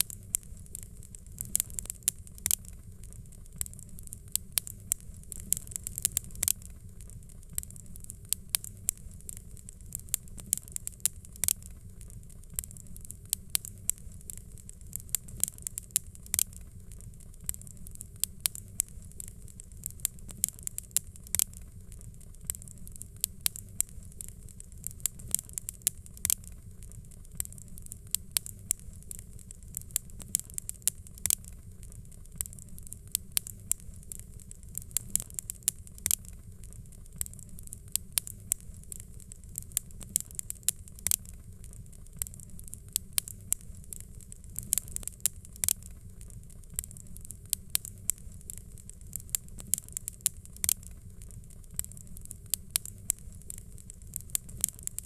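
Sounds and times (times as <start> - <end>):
fireplace fire crackling: 0.0 - 55.0
low steady rumble: 0.0 - 55.0
soft hiss: 0.0 - 55.0.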